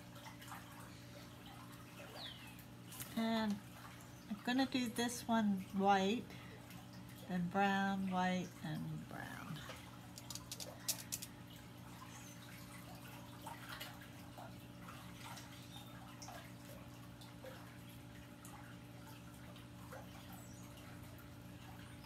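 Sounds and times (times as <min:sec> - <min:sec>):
steady low hum: 0:00.0 - 0:22.0
water dripping and trickling: 0:00.0 - 0:22.0.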